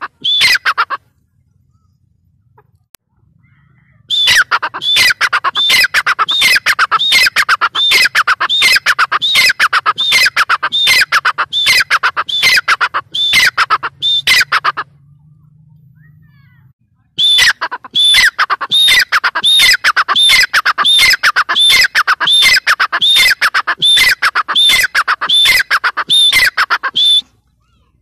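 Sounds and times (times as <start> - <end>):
francolin calling: 0.0 - 0.9, 3.3 - 16.2, 17.2 - 27.3.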